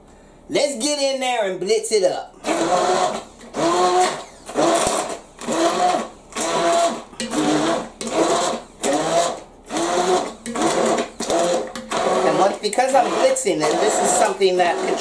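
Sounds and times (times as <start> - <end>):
immersion blender motor whirring: 2.4 - 15.0.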